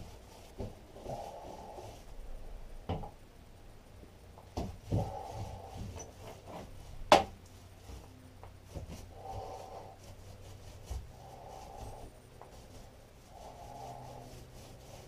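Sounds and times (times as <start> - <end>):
paintbrush scrubbing and dabbing: 0.0 - 2.1, 4.6 - 15.0.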